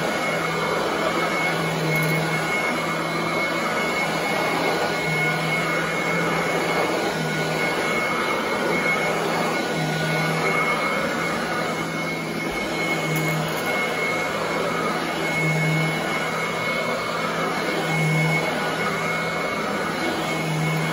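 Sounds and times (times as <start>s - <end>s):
vacuum cleaner running on carpet: 0.0s - 20.9s.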